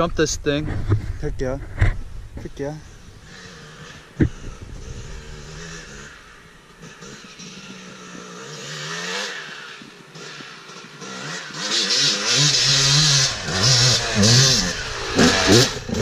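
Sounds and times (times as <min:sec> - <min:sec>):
dirt bike engine revving: 0:02.7 - 0:16.0.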